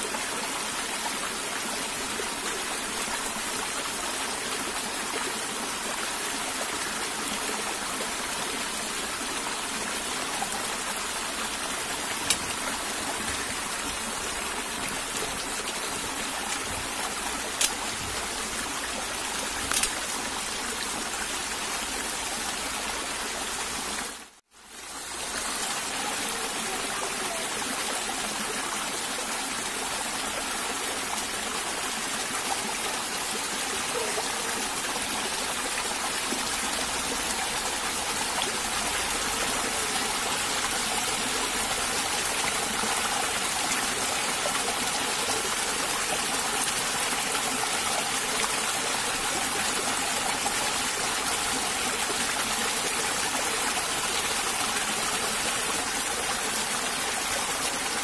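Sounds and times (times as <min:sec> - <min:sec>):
stream pouring over rocks: 0:00.0 - 0:58.0.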